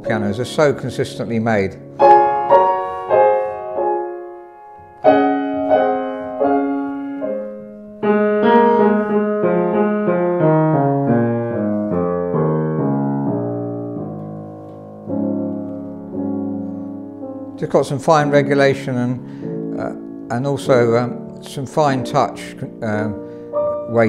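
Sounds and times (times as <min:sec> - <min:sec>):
grand piano playing: 0:00.0 - 0:24.0.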